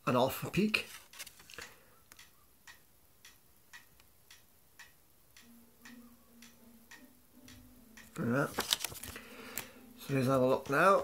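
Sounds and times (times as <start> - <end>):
low steady hum: 0.0 - 11.0
faint steady ticking: 0.1 - 11.0.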